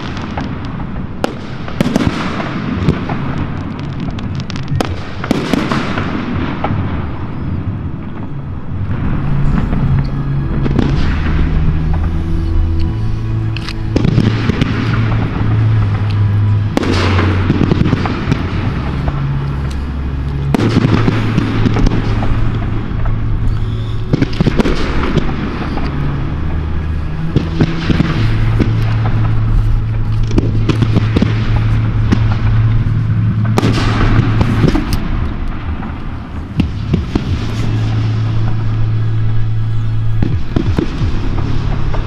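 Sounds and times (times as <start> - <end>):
fireworks bangs and bursts: 0.0 - 42.0
fireworks crackling and popping: 0.0 - 42.0.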